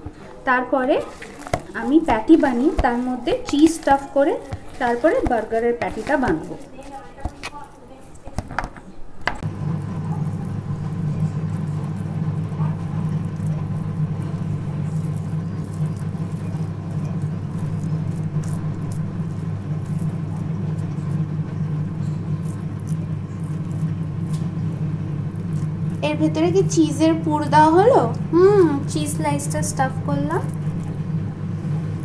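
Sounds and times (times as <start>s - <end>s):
hands kneading raw mince: 0.0s - 32.0s
steady low hum: 0.0s - 32.0s.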